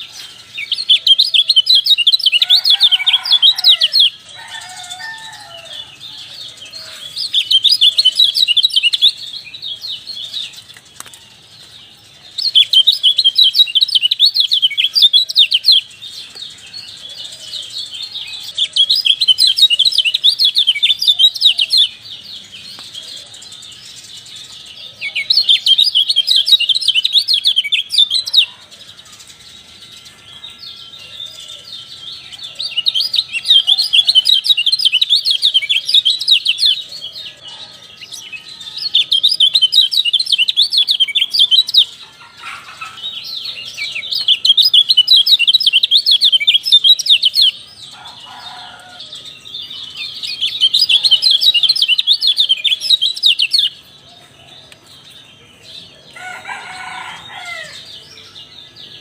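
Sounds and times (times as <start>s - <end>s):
songbird rapid high chirping: 0.0s - 59.0s.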